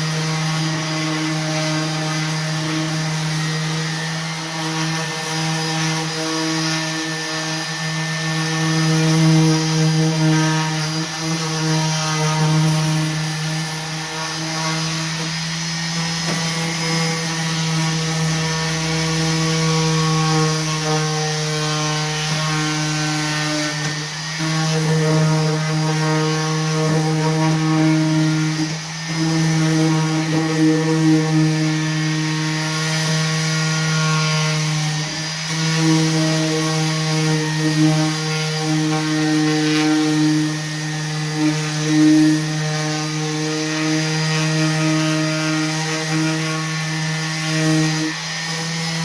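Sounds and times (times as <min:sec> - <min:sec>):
orbital sander on wood: 0:00.0 - 0:49.0.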